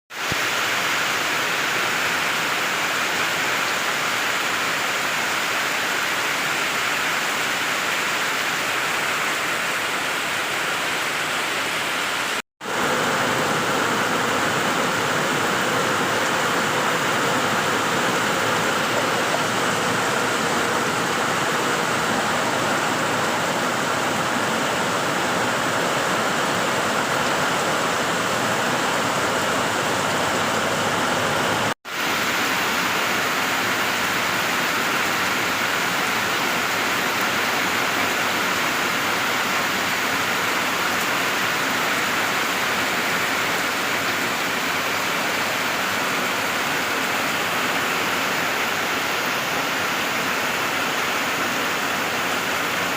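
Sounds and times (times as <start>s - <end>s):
heavy rain falling: 0.1s - 52.9s.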